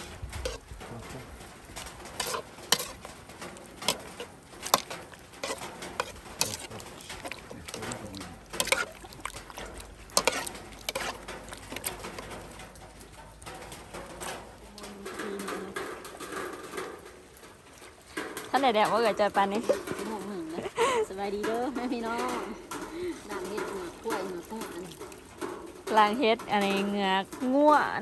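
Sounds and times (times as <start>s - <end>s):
ladle clinking and scraping a pot: 0.0s - 28.0s.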